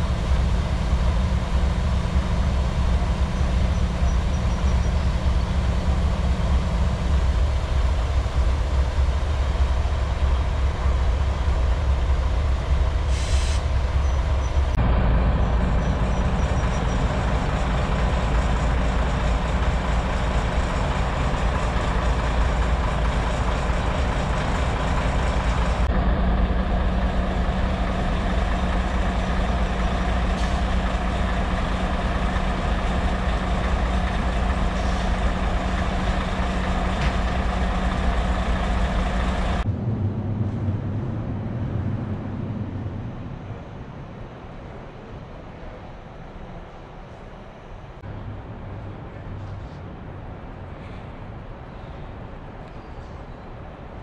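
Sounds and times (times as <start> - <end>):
heavy diesel engines running: 0.0 - 54.0
rerailing machines running: 0.0 - 54.0.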